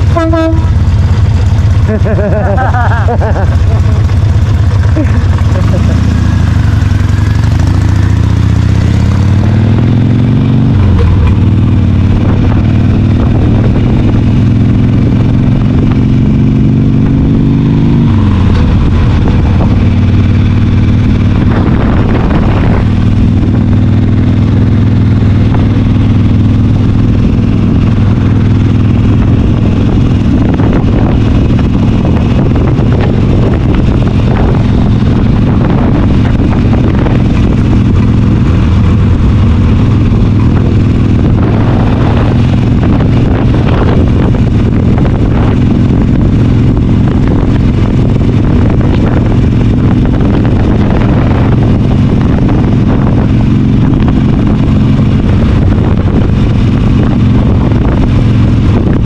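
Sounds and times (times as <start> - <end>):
low rush: 0.0 - 59.0
motorcycle engine running: 0.0 - 59.0.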